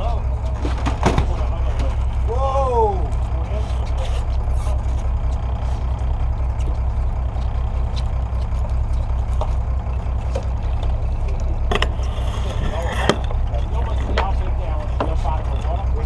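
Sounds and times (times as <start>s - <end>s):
boat engine throbbing: 0.0s - 16.0s.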